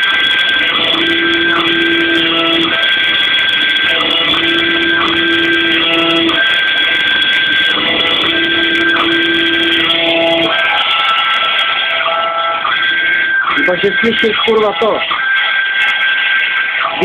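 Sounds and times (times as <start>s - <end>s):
router spindle whining: 0.0s - 17.0s
stepper motors whining: 0.0s - 17.0s.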